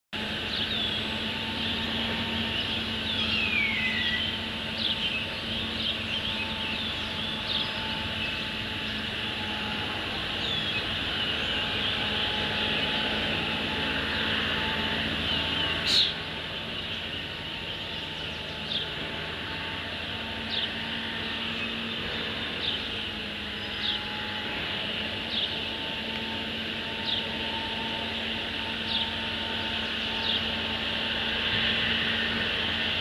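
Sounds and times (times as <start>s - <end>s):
steady hum: 0.2s - 33.0s.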